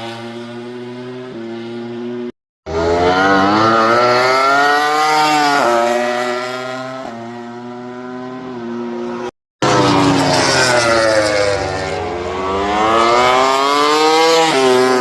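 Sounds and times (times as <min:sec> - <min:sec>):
race motorcycle engine revving: 0:00.0 - 0:15.0.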